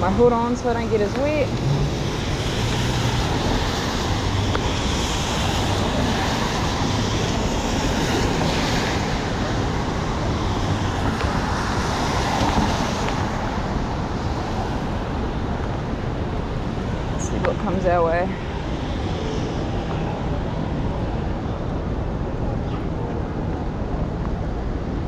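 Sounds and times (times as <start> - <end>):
traffic on wet road: 0.0 - 25.0.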